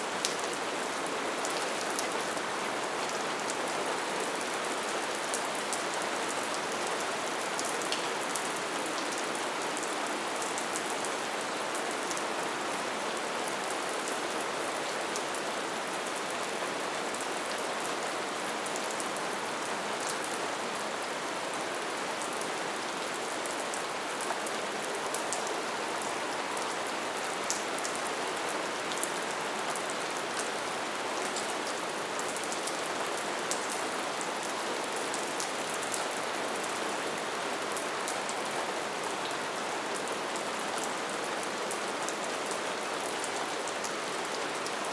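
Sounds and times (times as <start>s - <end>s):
light rain falling: 0.0s - 44.9s.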